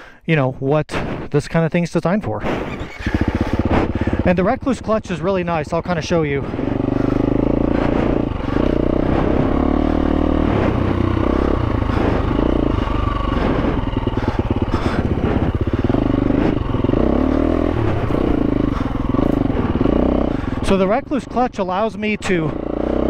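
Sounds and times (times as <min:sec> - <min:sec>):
motorcycle engine revving: 0:02.4 - 0:23.0.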